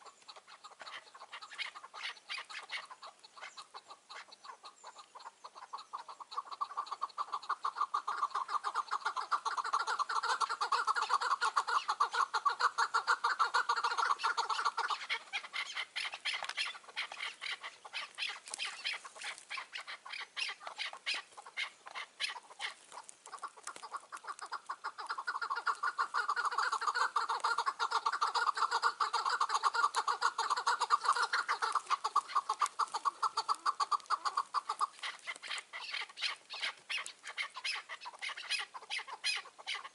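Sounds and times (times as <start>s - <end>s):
partridges chattering calls: 0.0s - 39.9s.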